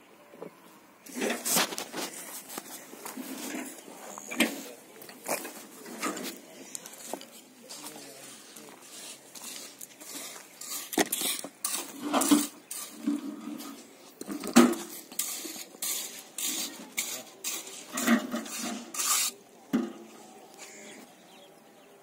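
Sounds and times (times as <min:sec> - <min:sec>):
stones scraping: 0:01.1 - 0:19.4.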